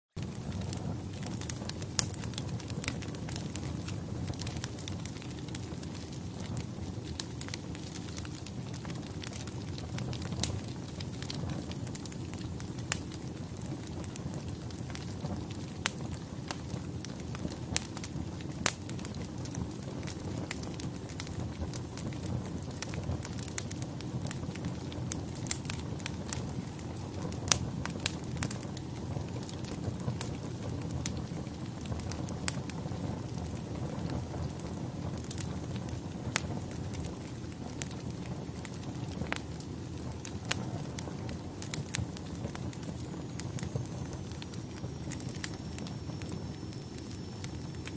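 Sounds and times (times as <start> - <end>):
fire crackling and popping: 0.2 - 47.9.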